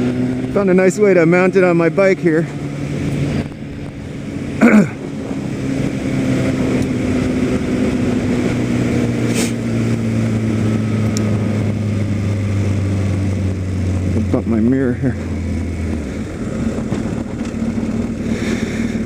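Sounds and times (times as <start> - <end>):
motorcycle engine running: 0.0 - 19.0
wind noise: 2.5 - 19.0.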